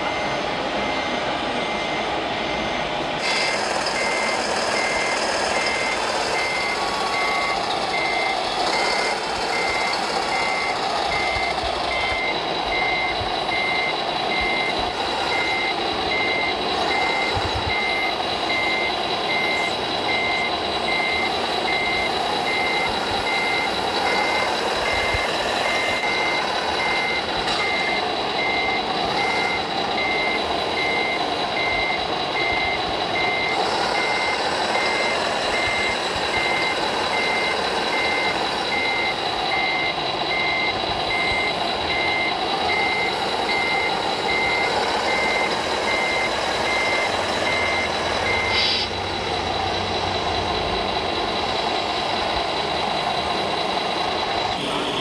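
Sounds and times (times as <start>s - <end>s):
electronic reversing beeps: 0.0s - 49.0s, 54.5s - 55.0s.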